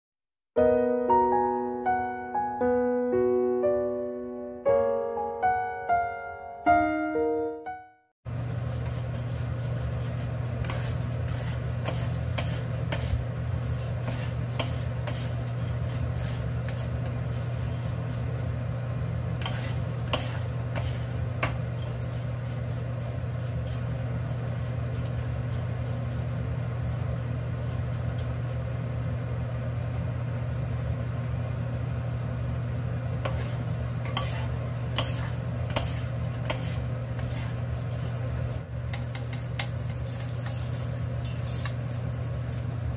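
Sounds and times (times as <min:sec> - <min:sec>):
dry-roasting rustle and sizzle: 0:08.3 - 0:42.9.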